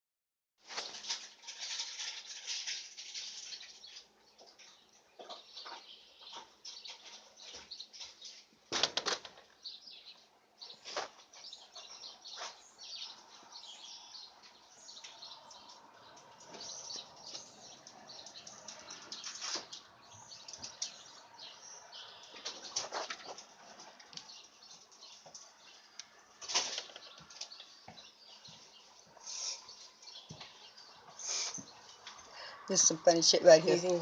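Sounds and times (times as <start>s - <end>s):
rustling and scuffling of feathers: 0.6s - 10.0s, 10.6s - 13.7s, 16.1s - 21.5s, 22.2s - 32.2s.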